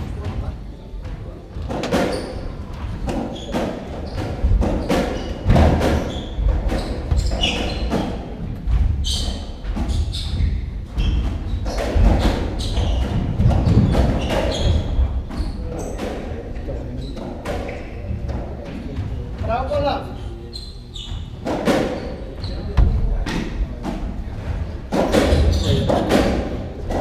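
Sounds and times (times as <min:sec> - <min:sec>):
court shoes squeaking: 0:00.0 - 0:27.0.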